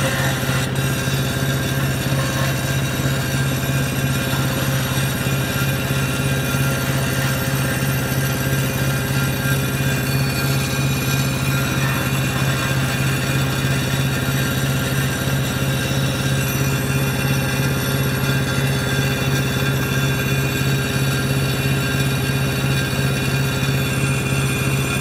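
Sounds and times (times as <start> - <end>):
wood chipper engine humming: 0.0 - 25.0.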